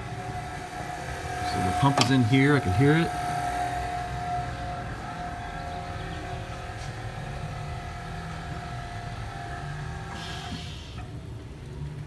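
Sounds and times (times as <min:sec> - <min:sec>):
air compressor humming: 0:00.0 - 0:11.2.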